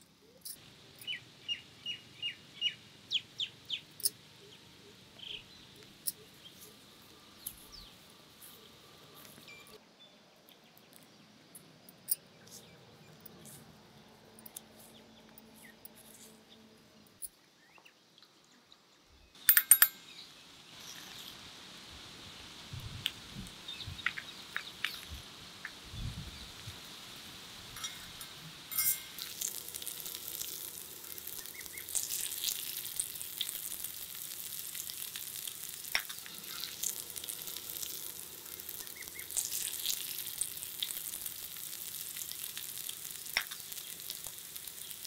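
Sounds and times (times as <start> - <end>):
small bird chirping: 0.0 - 21.4, 23.6 - 26.7, 28.8 - 45.0.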